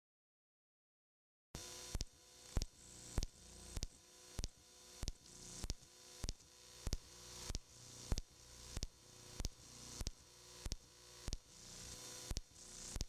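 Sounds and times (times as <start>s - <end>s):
tape hum and hiss: 1.6s - 13.0s.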